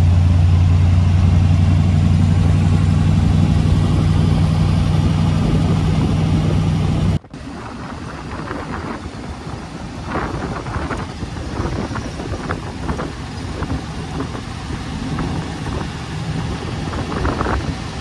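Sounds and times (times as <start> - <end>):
car engine running low: 0.0 - 18.0
wind buffeting microphone: 1.0 - 18.0.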